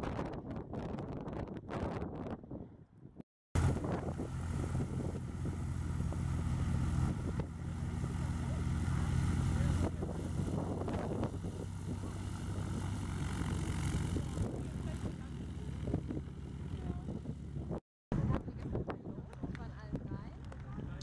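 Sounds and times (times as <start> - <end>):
propeller plane engine taxiing: 3.6 - 21.0.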